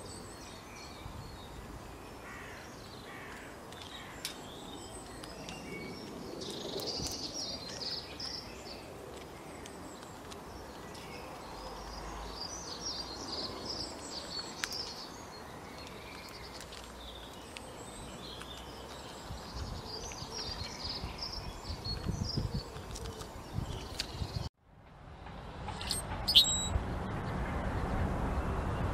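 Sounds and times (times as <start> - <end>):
birds chirping: 0.0 - 24.5, 25.8 - 27.4
steady outdoor hiss: 0.0 - 28.9.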